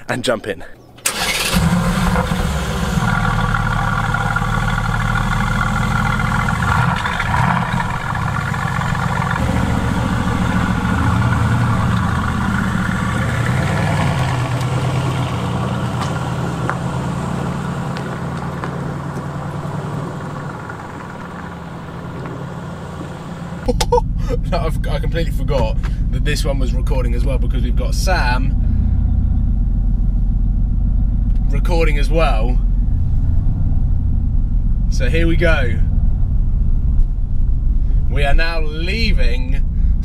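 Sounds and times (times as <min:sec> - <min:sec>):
car driving away: 0:01.0 - 0:38.1
car engine idling: 0:01.0 - 0:40.0.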